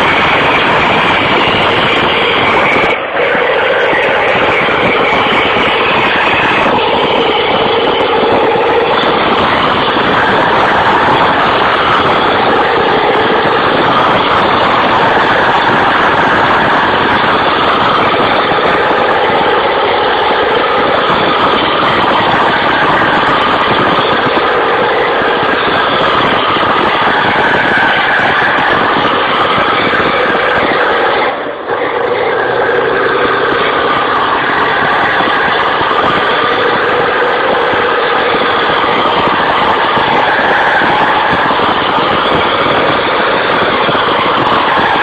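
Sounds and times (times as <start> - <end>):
truck engine running hard: 0.0 - 45.0.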